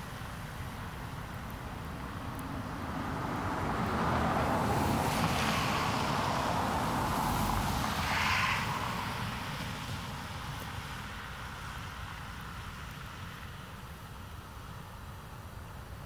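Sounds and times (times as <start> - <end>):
car tyres hissing on wet road: 0.0 - 16.0.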